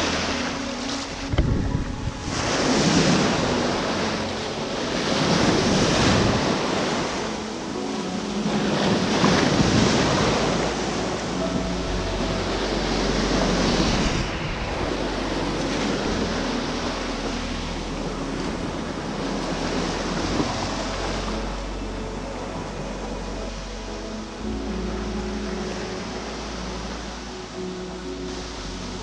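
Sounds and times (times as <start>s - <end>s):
waves breaking against rocks: 0.0s - 24.4s
waves washing over shingle: 0.0s - 29.0s.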